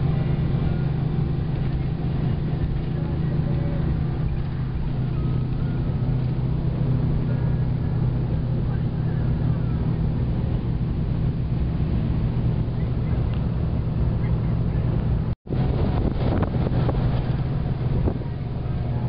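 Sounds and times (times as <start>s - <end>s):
tyre and wind noise: 0.0s - 19.0s
vehicle engine running: 0.0s - 19.0s.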